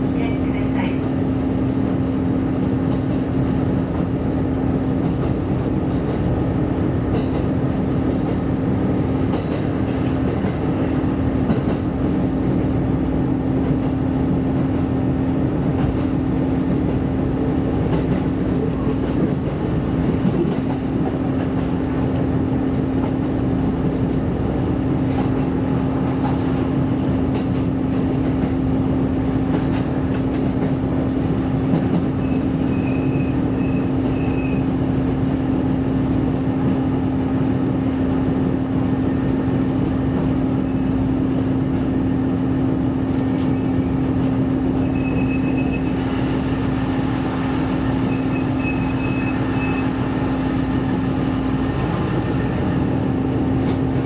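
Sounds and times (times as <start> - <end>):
railcar engine droning hum: 0.0 - 54.0
train wheels rolling on rails: 0.0 - 54.0.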